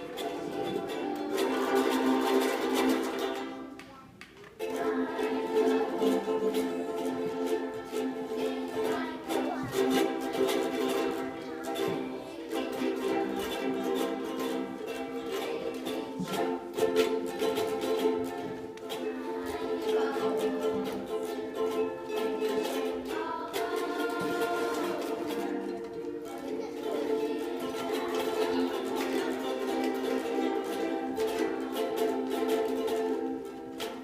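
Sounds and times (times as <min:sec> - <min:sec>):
strummed string instrument: 0:00.0 - 0:34.0.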